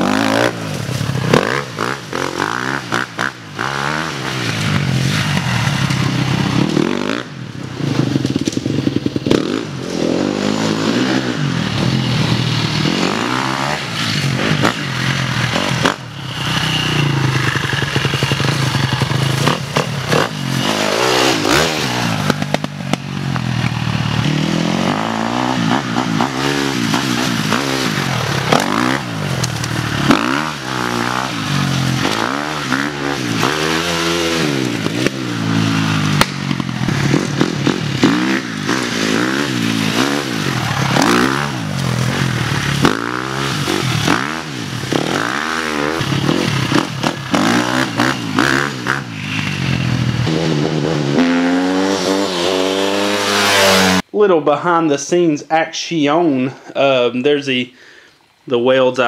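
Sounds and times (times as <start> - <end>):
dirt bike engine revving: 0.0 - 54.1.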